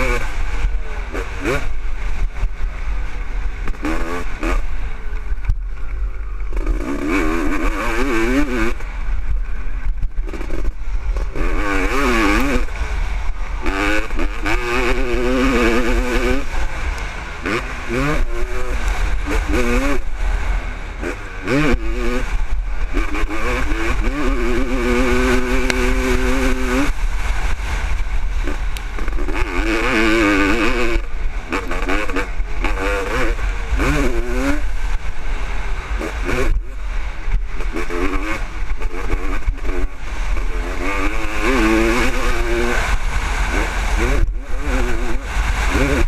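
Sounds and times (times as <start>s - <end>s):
motorcycle engine revving hard: 0.0s - 46.0s
wind rumble on microphone: 0.0s - 46.0s.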